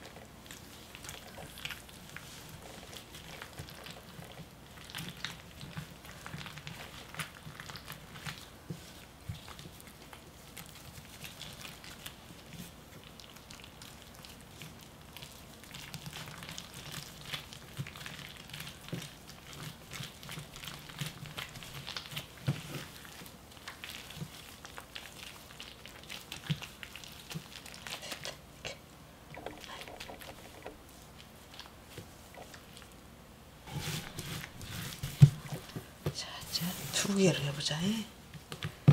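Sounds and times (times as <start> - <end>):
wet squishing of cabbage: 0.0 - 38.9.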